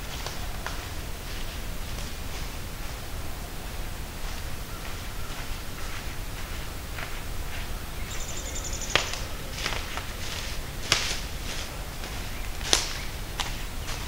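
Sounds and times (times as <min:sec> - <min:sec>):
footsteps crunching dry leaves: 0:00.0 - 0:14.0
leaves and twigs crackling: 0:00.0 - 0:14.0.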